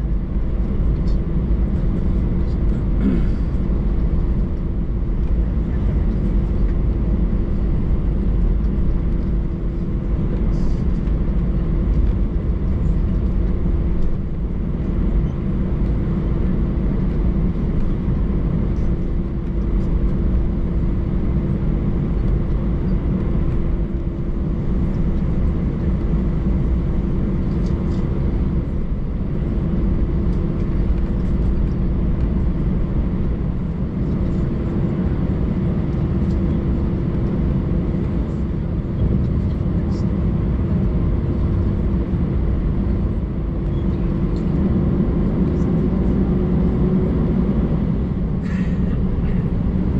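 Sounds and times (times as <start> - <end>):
airliner cabin rumble: 0.0 - 49.9
constant hum: 0.0 - 49.9.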